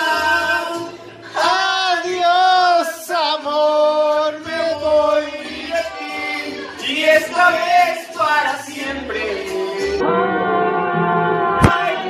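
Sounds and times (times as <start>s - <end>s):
man singing with vibrato: 0.0s - 10.0s.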